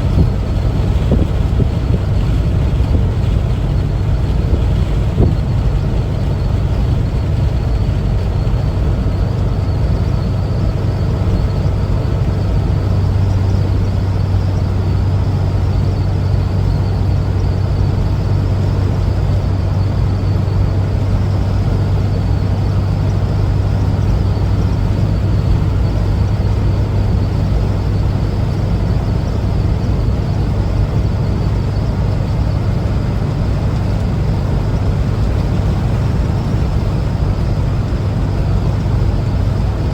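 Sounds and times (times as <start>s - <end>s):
camper van engine running: 0.0s - 39.9s
road noise: 0.0s - 39.9s.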